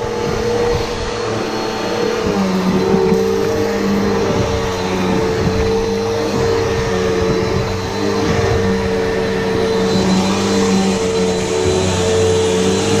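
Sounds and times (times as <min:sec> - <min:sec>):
vacuum cleaner on carpet: 0:00.0 - 0:13.0.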